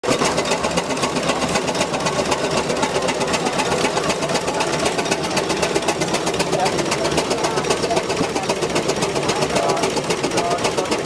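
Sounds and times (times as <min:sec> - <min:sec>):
tractor engine clattering: 0:00.0 - 0:11.0.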